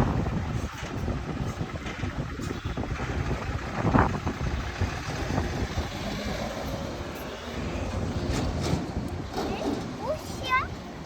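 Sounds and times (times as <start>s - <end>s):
vehicle rumbling by: 0.0s - 11.0s.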